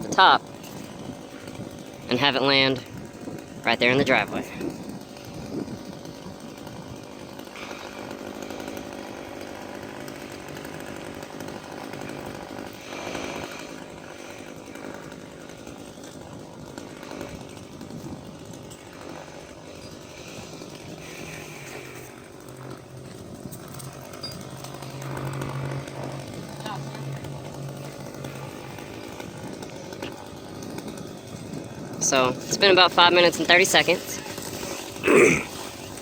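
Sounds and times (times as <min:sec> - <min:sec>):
chainsaw cutting: 0:00.0 - 0:36.0.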